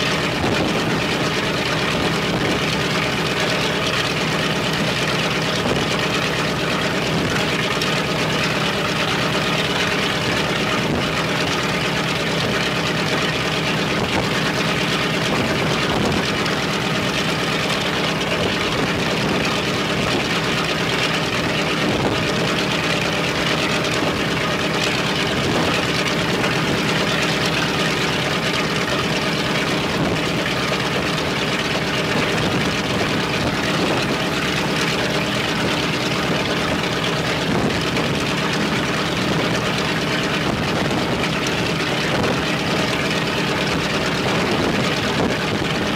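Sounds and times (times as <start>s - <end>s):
radial piston engine running: 0.0s - 45.9s.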